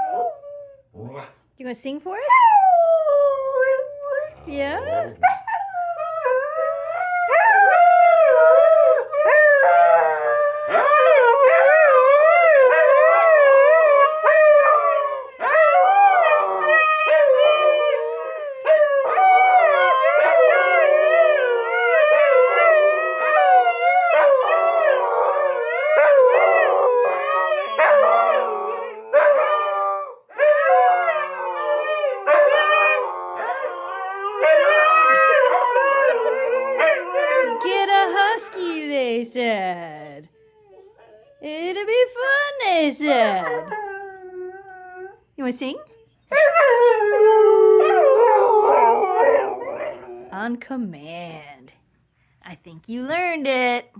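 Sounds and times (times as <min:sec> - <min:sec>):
dog howling: 0:02.3 - 0:39.0, 0:42.8 - 0:45.3, 0:46.3 - 0:50.3.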